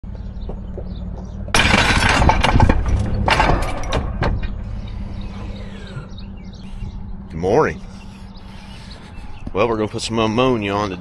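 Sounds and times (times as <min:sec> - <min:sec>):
truck engine running: 0:00.0 - 0:11.0
gravel crunching under tyres: 0:00.1 - 0:11.0.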